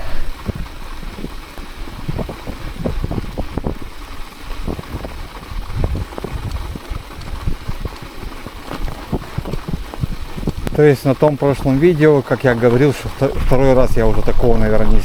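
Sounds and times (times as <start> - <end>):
bicycle tyres crunching snow: 0.0 - 15.0
wind on microphone: 0.0 - 15.0.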